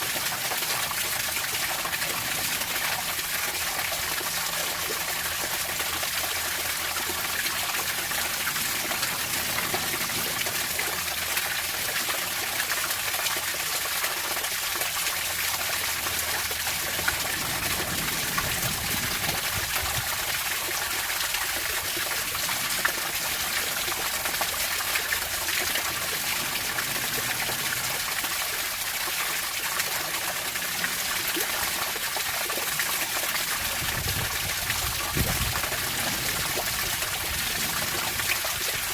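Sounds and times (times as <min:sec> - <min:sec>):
water flowing and trickling: 0:00.0 - 0:38.9.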